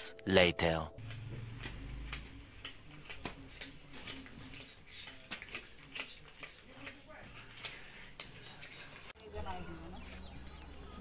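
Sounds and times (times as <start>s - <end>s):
banknotes flicked and rustling: 1.0s - 11.0s.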